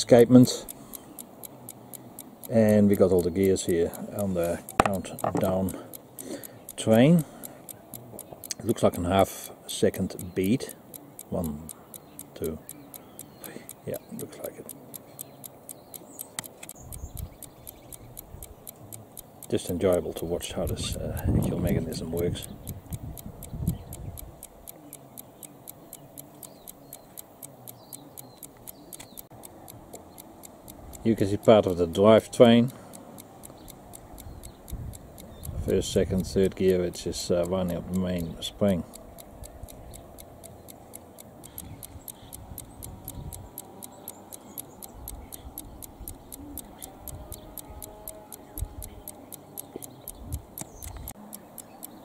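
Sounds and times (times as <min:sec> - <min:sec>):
time switch ticking: 0:00.0 - 0:52.0.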